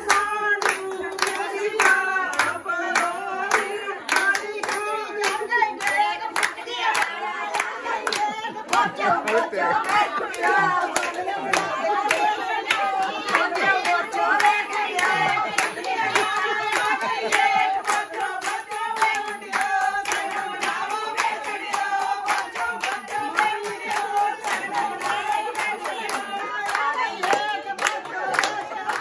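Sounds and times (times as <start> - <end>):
rhythmic clapping: 0.0 - 29.0
women singing together: 0.0 - 29.0.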